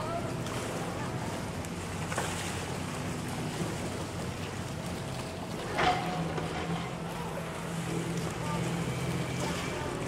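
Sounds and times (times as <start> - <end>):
boat striking dock: 0.0 - 10.0
motorboat engine droning: 0.0 - 10.0.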